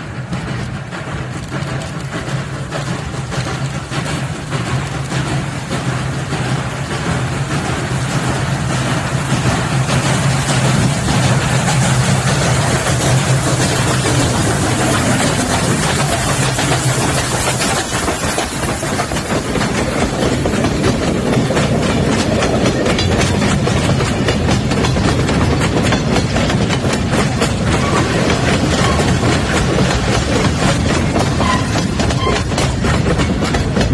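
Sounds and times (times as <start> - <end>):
steam locomotive passing: 0.0 - 33.9
wheels clicking over rail joints: 0.0 - 33.9.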